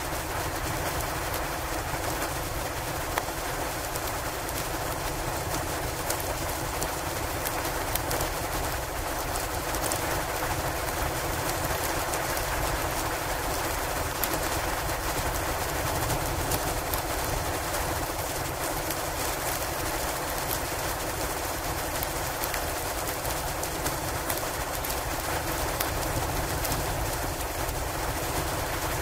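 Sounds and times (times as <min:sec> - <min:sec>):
hiss of wind: 0:00.0 - 0:29.0
wood fire crackling: 0:00.2 - 0:29.0.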